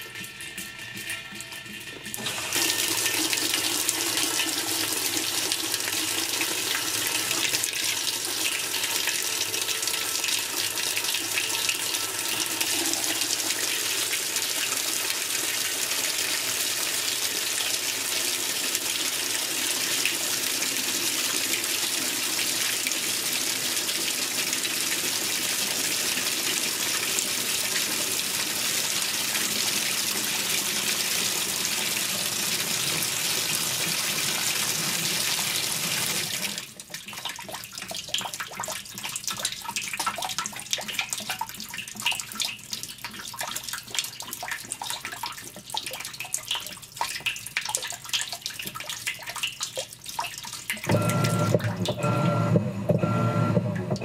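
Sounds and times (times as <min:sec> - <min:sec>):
water pouring into washer tub: 0:00.0 - 0:52.2.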